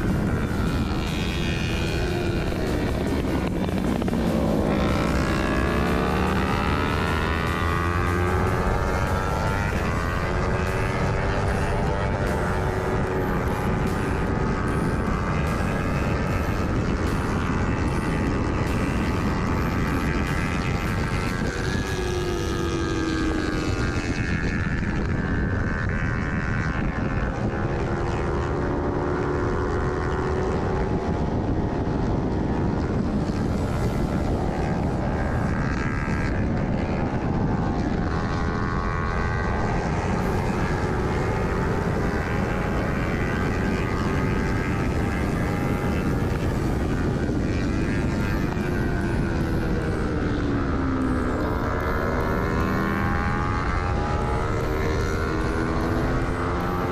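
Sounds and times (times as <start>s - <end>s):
heavy wind rush: 0.0s - 56.9s
motorcycle engine revving: 0.0s - 56.9s.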